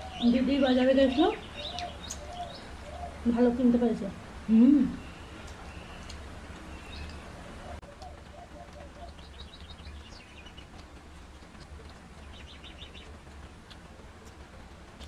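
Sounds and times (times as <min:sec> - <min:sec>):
small bird chirping trills: 0:00.0 - 0:03.7, 0:04.9 - 0:13.8
steady low hum: 0:00.0 - 0:15.0.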